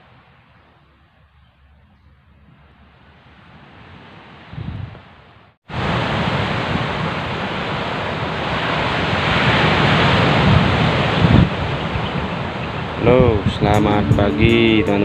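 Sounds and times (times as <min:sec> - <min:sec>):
wind buffeting microphone: 0:02.3 - 0:15.0.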